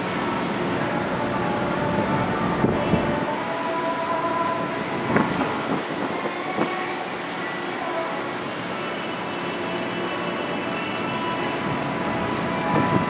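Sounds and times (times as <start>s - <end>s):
ship engine hum: 0.0s - 13.0s
wind and water rushing: 0.0s - 13.0s.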